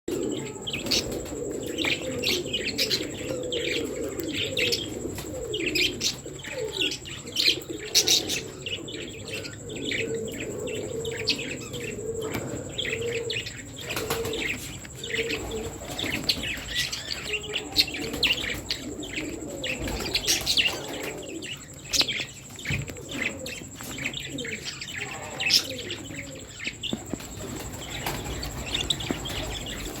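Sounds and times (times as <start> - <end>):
low cooing warble: 0.1 - 30.0
budgerigars chirping and chattering: 0.2 - 30.0.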